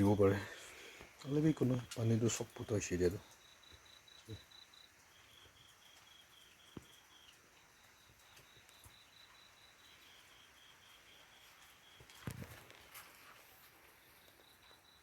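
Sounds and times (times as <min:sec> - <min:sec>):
faint cricket chirping: 0:00.0 - 0:15.0.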